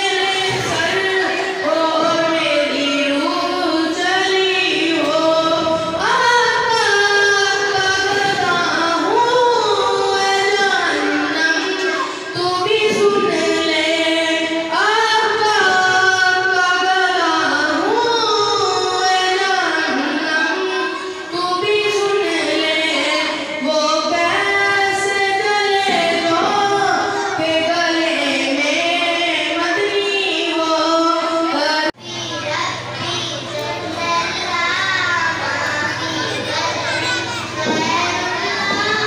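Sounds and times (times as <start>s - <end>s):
boy singing unaccompanied: 0.0s - 39.0s.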